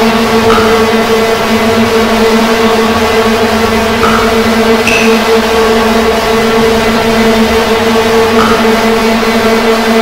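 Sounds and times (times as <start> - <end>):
engine-like droning hum: 0.0 - 10.0.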